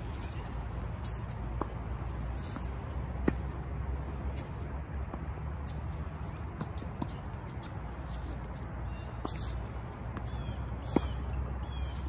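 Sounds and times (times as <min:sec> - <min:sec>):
tennis ball bouncing: 0:01.0 - 0:08.5, 0:09.1 - 0:12.0.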